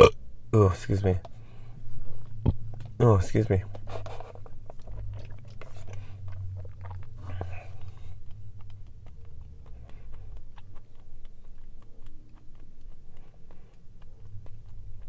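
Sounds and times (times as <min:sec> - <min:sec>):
chewing tapioca pearls: 0:02.0 - 0:15.0.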